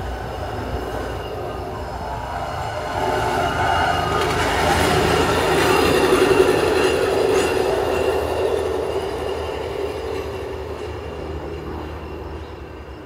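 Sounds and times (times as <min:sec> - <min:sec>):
steel wheels rolling on rails: 0:00.0 - 0:13.0
truck engine: 0:00.0 - 0:13.0.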